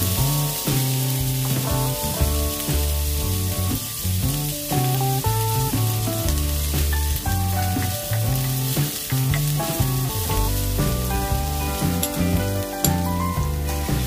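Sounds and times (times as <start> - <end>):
background music with bass line: 0.0 - 14.0
onions sizzling in hot oil: 0.0 - 14.0.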